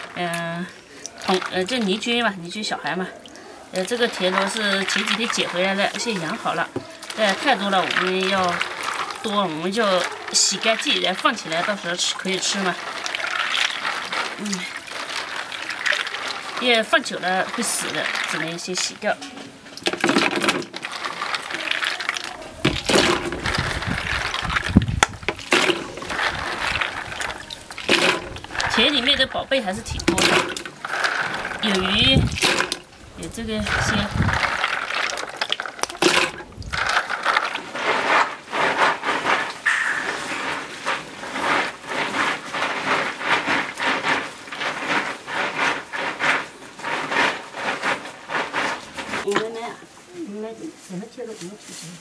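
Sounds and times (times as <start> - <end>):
snail shells clicking: 0.0 - 19.1, 19.7 - 48.1
scrubbing strokes: 0.0 - 49.4
water sloshing: 0.0 - 49.5.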